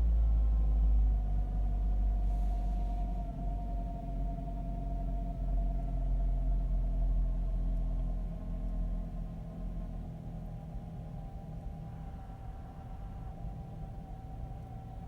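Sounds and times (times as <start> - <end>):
steady engine whine: 0.0 - 7.6, 9.0 - 15.0
car engine idling unevenly: 0.0 - 15.0.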